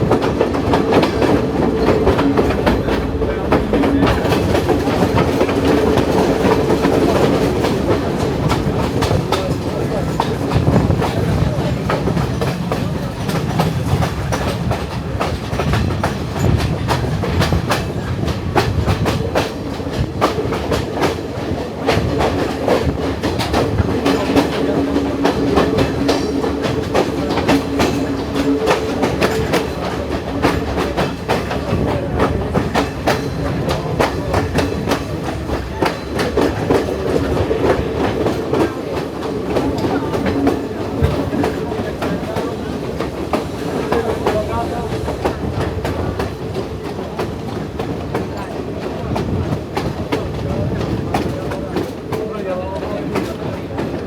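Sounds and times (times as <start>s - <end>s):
train rolling noise: 0.0s - 54.0s.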